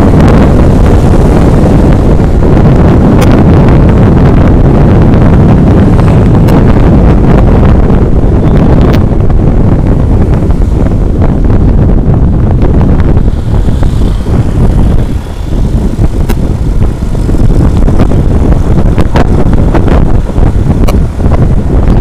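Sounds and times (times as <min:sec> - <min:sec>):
truck rumbling: 0:00.0 - 0:22.0
wind buffeting microphone: 0:00.0 - 0:22.0.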